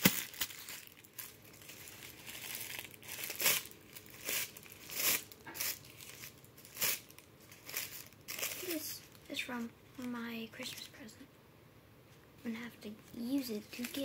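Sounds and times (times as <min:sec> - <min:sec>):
tissue paper rustling and crinkling: 0:00.0 - 0:10.9, 0:13.1 - 0:14.0.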